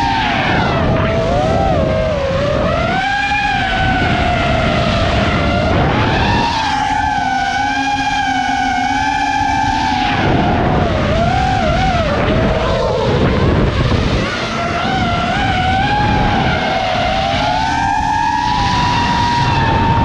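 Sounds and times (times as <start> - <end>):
drone motors whining: 0.0 - 20.0
wind rush on microphone: 0.0 - 20.0.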